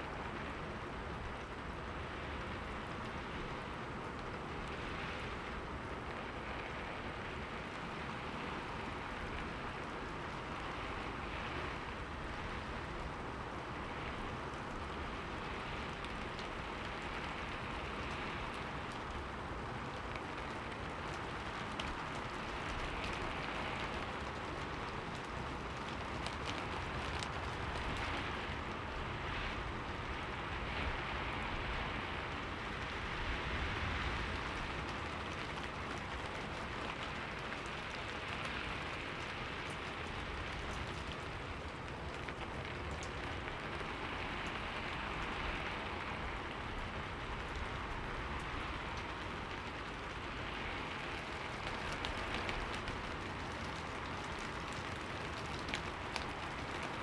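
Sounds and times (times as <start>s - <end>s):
rain on a window: 0.0s - 57.0s.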